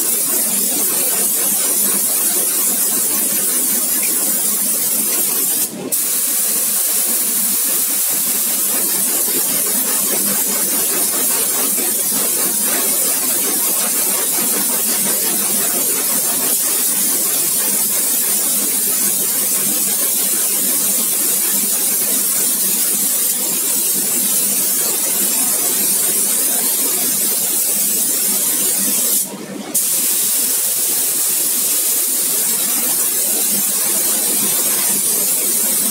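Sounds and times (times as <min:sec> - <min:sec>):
air spray gun hissing: 0:00.1 - 0:15.8, 0:22.2 - 0:35.9.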